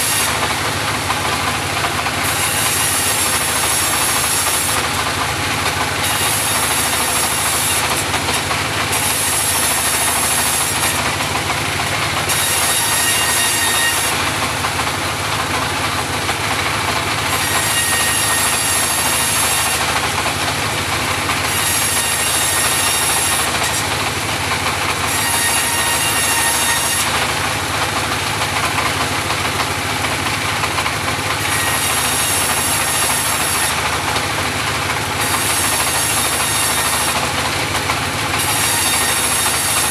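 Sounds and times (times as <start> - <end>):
bandsaw mill engine running: 0.0 - 39.9.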